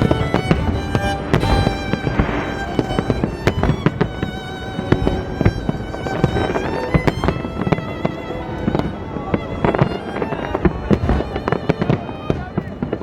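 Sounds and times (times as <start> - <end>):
fireworks bangs and cracks: 0.0 - 7.9, 8.5 - 13.0
violin music: 0.0 - 13.0.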